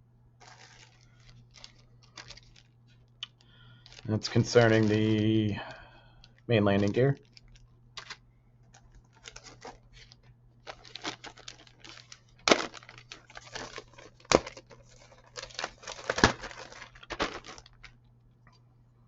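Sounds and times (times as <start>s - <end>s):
plastic bags crinkling: 0.4s - 18.6s.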